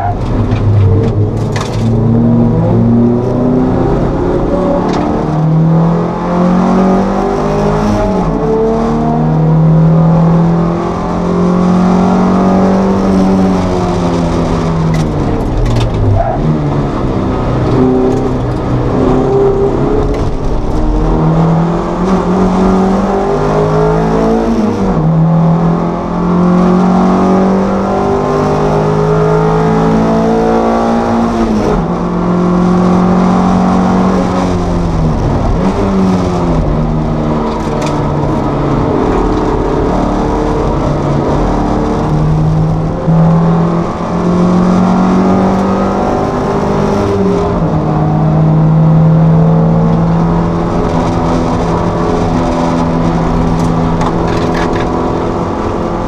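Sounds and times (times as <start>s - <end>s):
race car engine revving with upshifts: 0.0s - 56.0s.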